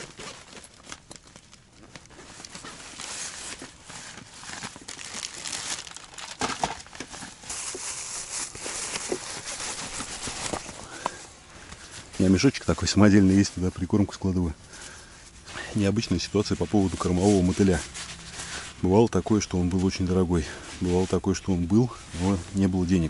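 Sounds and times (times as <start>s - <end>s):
bags rustling and crinkling: 0.0s - 23.0s.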